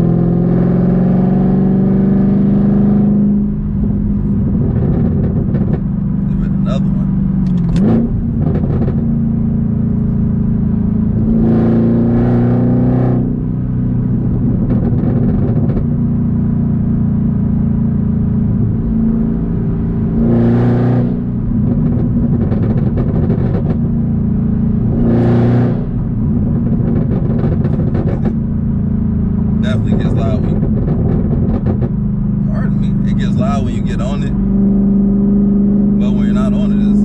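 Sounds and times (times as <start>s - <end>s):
car engine accelerating in cabin: 0.0s - 37.0s.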